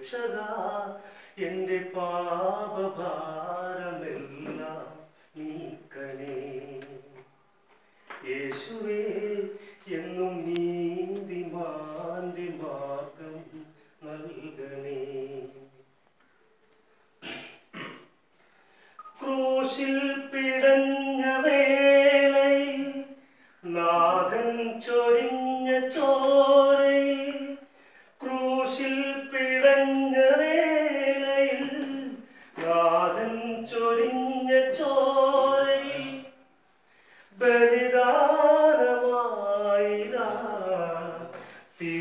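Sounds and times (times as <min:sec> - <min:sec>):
man singing unaccompanied: 0:00.0 - 0:07.3, 0:08.1 - 0:15.8, 0:19.1 - 0:36.6, 0:37.3 - 0:42.0.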